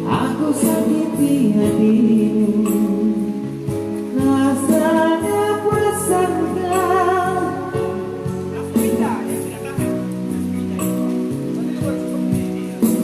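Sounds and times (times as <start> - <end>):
person singing with accompaniment: 0.0 - 11.2.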